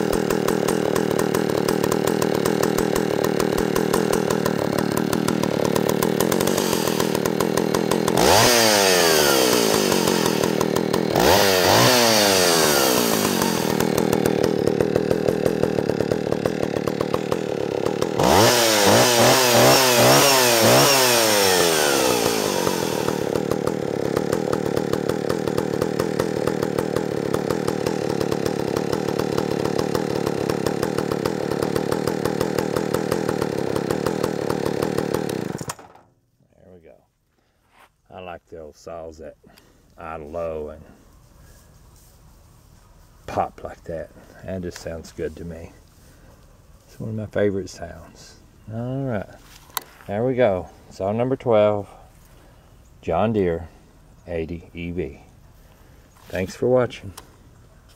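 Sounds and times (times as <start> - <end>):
chainsaw engine idling and revving: 0.0 - 36.0, 43.3 - 57.9.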